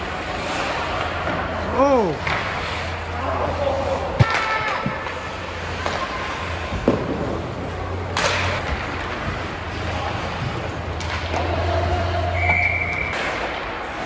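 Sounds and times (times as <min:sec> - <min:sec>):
skates scraping ice: 0:00.0 - 0:14.0
hockey stick hitting puck: 0:02.1 - 0:14.0.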